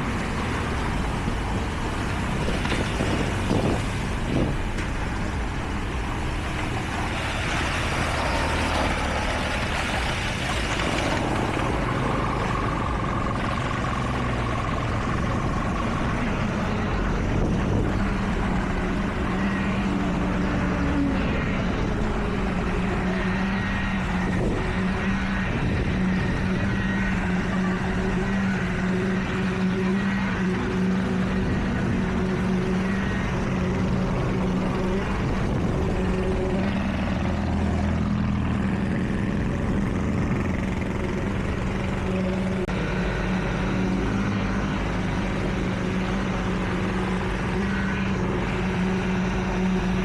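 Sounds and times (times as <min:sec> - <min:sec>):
heavy construction machinery engine: 0:00.0 - 0:50.0
low hum: 0:00.0 - 0:50.0.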